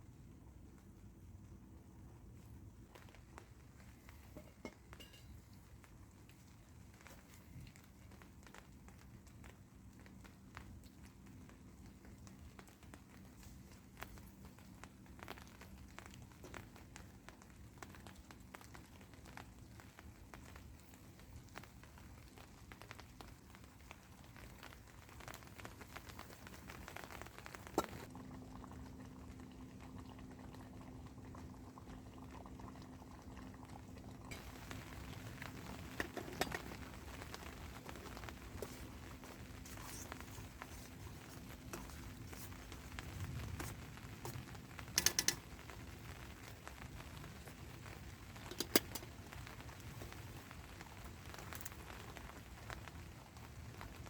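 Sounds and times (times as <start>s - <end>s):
small ticks and drips: 0.0s - 54.0s
water bubbling in a pot: 0.0s - 54.0s.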